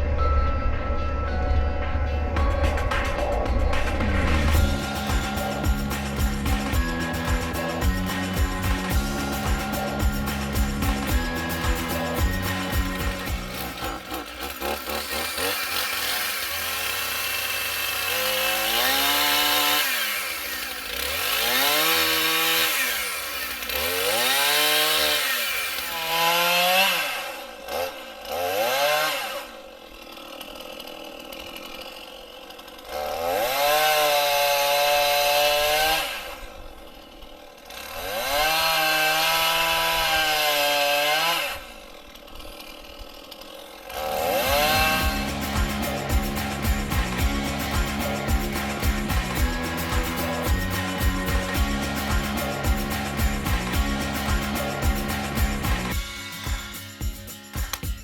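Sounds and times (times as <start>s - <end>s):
engine revving: 2.8s - 29.6s, 32.9s - 36.4s, 37.7s - 41.7s, 43.8s - 56.8s.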